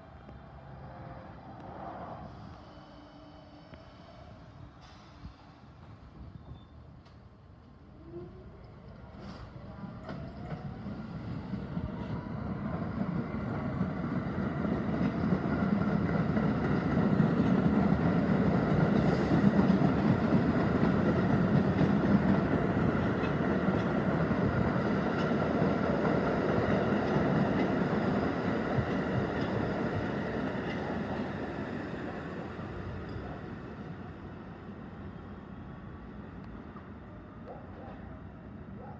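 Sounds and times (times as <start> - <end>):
subway train passing: 0.0 - 38.9.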